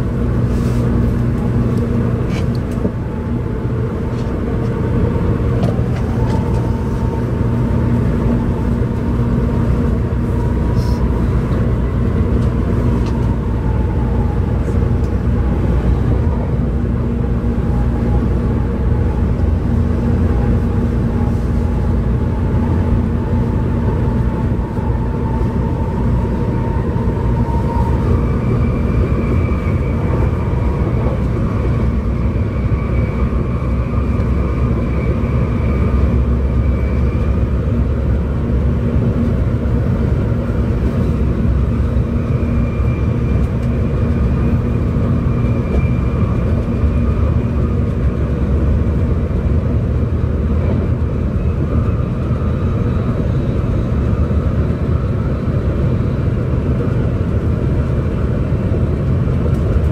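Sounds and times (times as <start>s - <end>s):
train wheels and rushing air: 0.0s - 59.9s.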